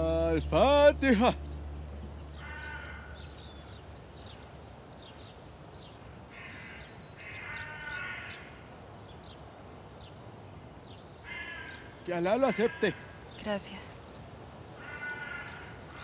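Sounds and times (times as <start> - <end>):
larger bird calls: 0.0 - 8.9, 11.2 - 16.0
small birds chirping: 0.0 - 16.0.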